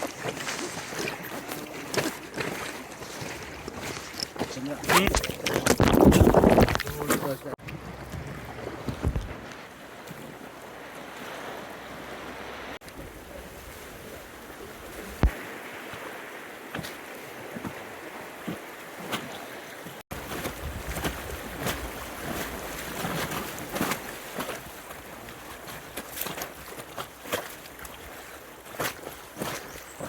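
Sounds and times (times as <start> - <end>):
water splashes: 0.0 - 30.0.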